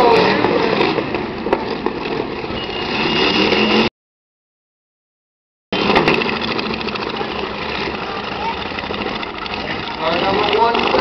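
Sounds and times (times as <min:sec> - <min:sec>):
car engines idling and running: 0:00.0 - 0:03.9, 0:05.8 - 0:11.0.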